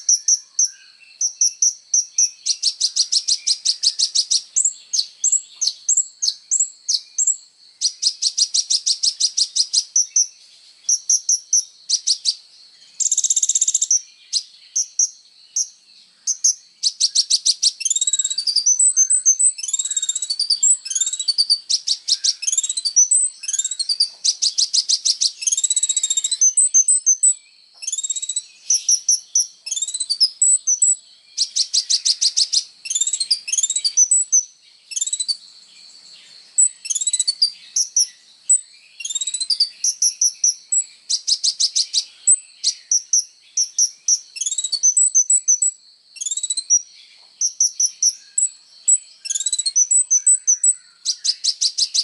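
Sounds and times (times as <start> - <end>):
sunbird singing: 0.0 - 52.0.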